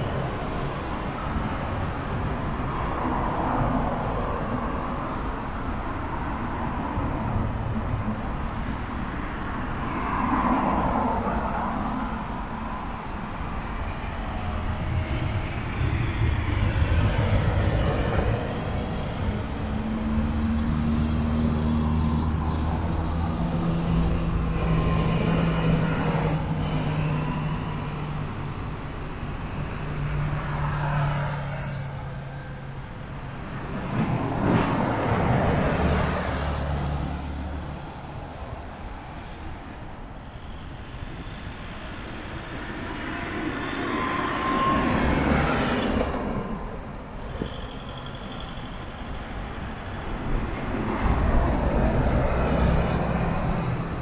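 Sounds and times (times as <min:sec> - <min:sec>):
bus engine hum: 0:00.0 - 0:09.9, 0:10.5 - 0:54.0
road traffic passing: 0:00.0 - 0:54.0.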